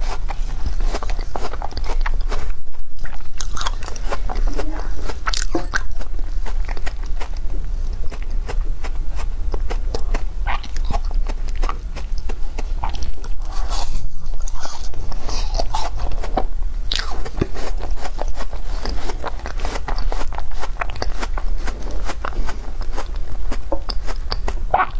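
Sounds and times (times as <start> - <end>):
crunching and chewing ice: 0.0 - 24.9.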